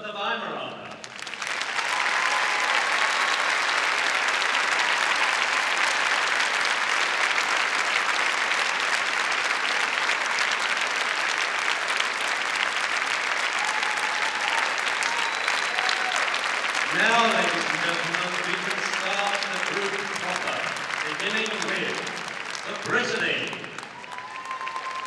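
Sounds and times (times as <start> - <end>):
crowd applauding: 0.9 - 25.0.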